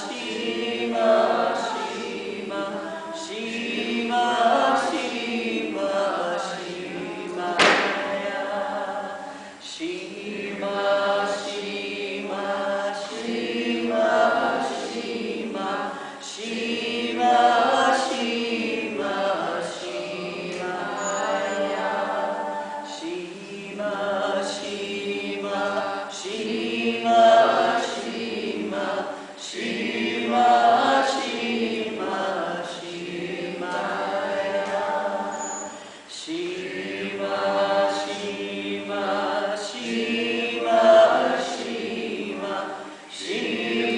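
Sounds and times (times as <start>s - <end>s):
group chanting: 0.0s - 43.9s.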